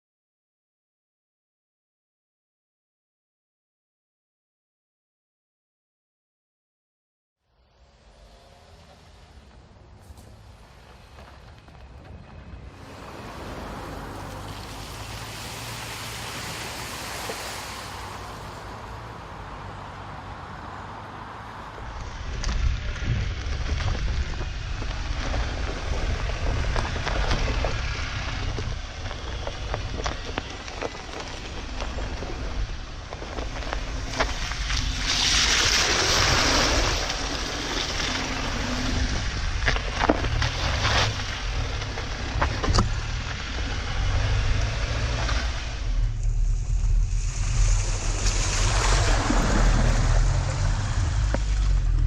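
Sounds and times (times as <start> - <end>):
vehicle rumbling over rough ground: 7.5 - 52.0.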